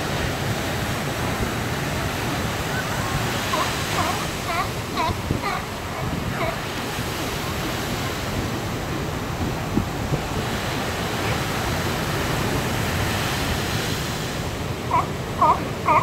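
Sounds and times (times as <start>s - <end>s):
waves breaking on beach: 0.0s - 16.0s
wind on microphone: 0.0s - 16.0s.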